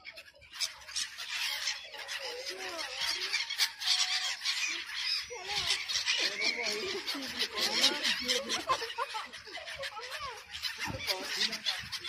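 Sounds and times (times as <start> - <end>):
gulls squawking: 0.0 - 12.0.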